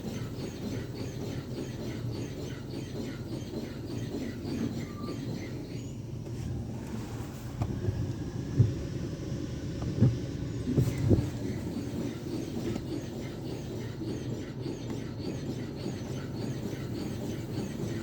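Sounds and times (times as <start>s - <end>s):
car wash machine low rumble: 0.0s - 18.0s.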